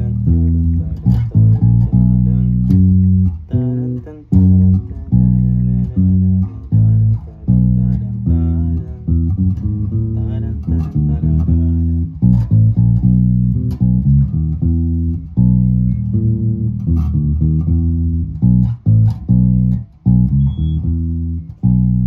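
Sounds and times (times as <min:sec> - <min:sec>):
electric bass guitar plucked notes: 0:00.0 - 0:22.0.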